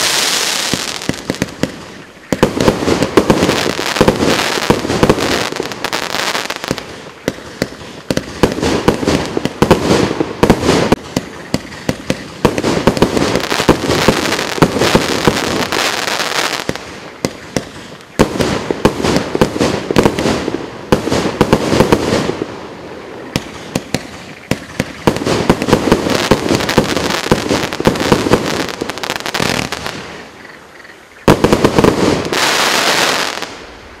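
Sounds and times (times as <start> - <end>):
fireworks popping and bursting: 0.0 - 30.4, 31.2 - 33.7.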